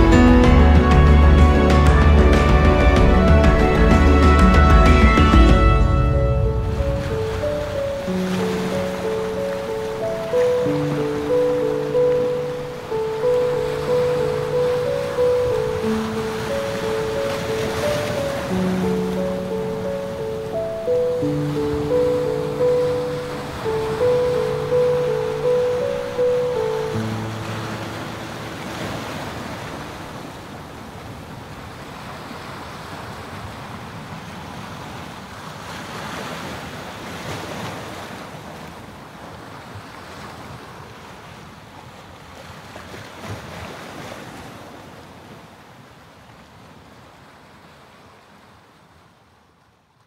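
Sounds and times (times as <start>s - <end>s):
waves breaking on rocky shore: 6.6s - 49.2s.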